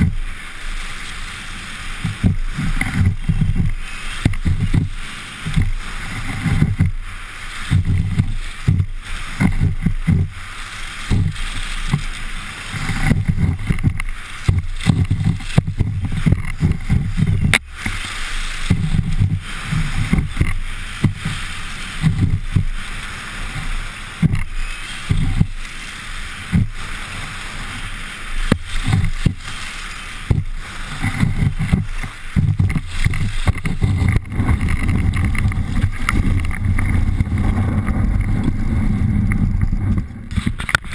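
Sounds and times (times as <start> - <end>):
ski carving on snow: 0.0 - 40.9
wind buffeting microphone: 0.0 - 40.9.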